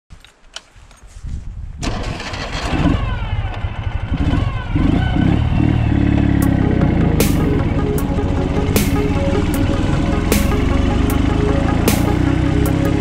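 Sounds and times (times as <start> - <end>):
motorcycle engine starting and revving: 1.8 - 13.0.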